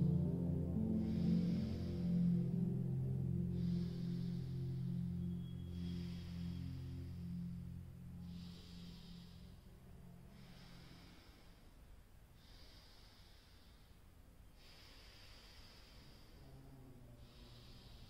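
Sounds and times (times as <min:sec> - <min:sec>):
breathing through the nose: 0:00.0 - 0:18.0.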